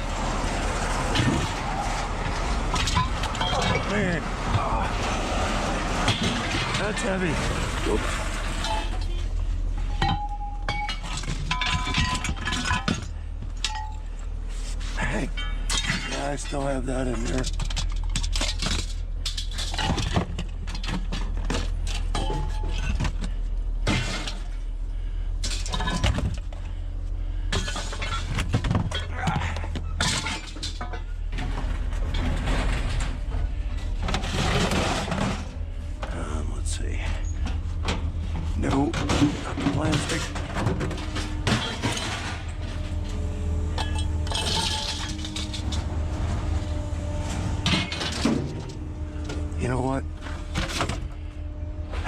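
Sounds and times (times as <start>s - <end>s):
scrap metal clanging: 0.0s - 24.7s, 25.4s - 52.0s
steady low hum: 0.0s - 52.0s.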